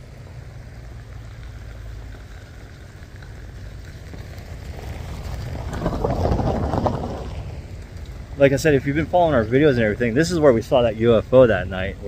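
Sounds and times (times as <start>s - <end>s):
off-road vehicle rumbling: 0.0s - 12.0s.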